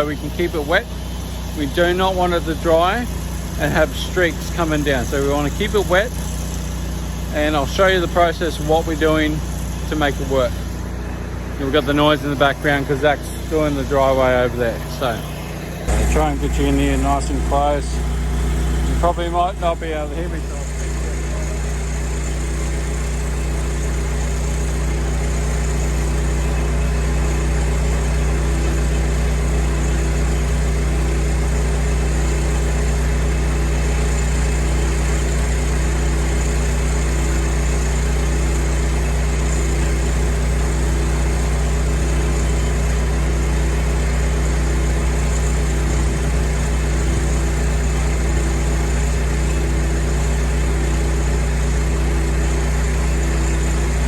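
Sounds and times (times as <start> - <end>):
pressure washer engine drone: 0.0 - 54.0.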